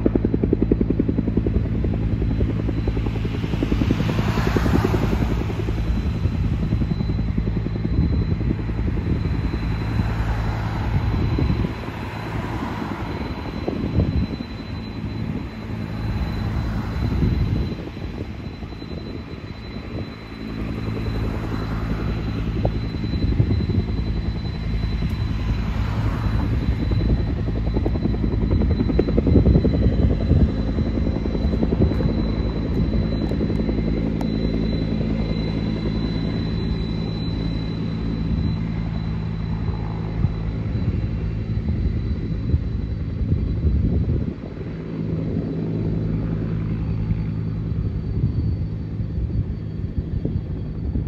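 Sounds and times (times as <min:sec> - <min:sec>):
jet airliner engines taxiing: 0:00.0 - 0:51.0.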